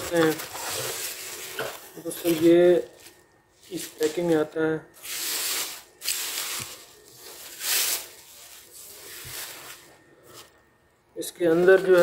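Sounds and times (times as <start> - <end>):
bubble wrap rustling: 0.0 - 10.7, 11.4 - 12.0.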